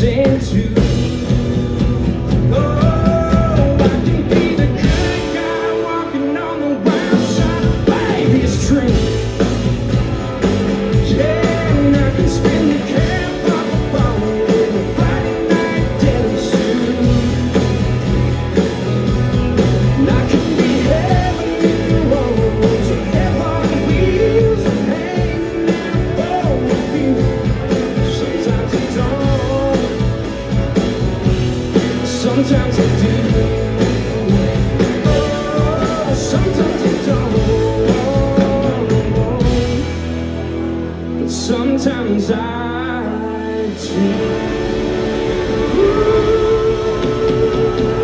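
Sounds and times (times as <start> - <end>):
man singing: 0.0 - 1.4, 2.2 - 40.4, 41.0 - 48.0
live country rock band: 0.0 - 48.0.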